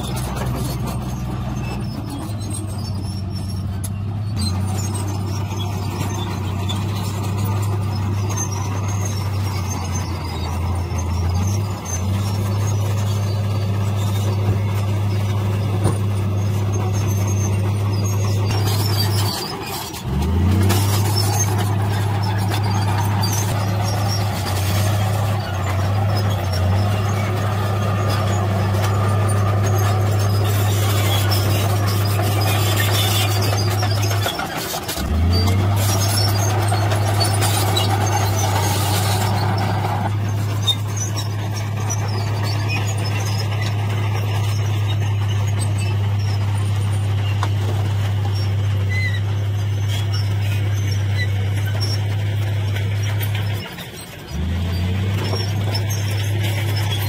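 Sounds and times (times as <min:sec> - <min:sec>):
bulldozer diesel engine: 0:00.0 - 0:57.0
steel tracks squealing: 0:00.0 - 0:57.0.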